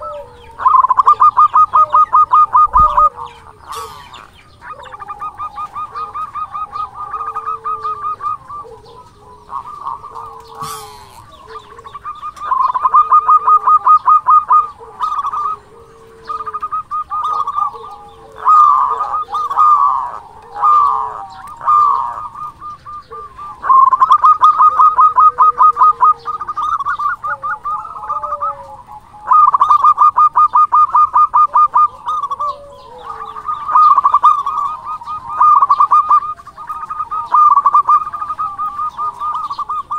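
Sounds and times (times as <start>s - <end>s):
dove trilling coos: 0.0s - 39.9s
low sliding dove coos: 0.0s - 39.9s.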